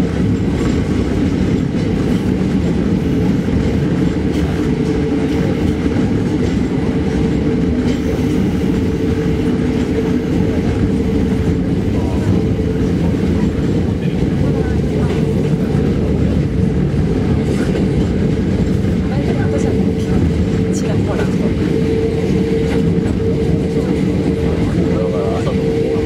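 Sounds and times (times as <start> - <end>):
train motor hum: 0.0 - 26.0
train wheels rumbling on rail: 0.0 - 26.0.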